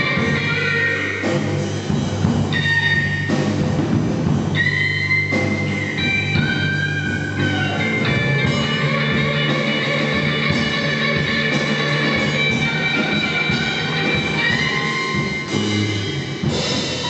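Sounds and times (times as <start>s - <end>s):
blues rock band playing: 0.0s - 17.0s
guitar bending long notes: 0.0s - 17.0s
steady low bass line: 0.0s - 17.0s.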